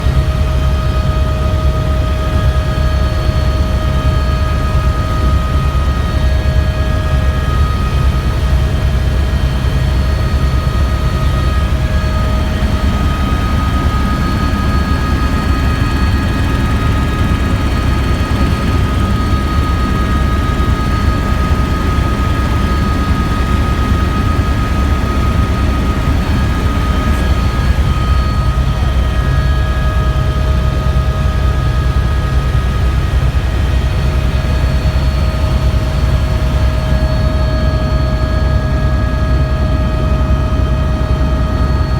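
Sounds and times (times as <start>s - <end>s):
helicopter rotor rumble: 0.0s - 41.9s.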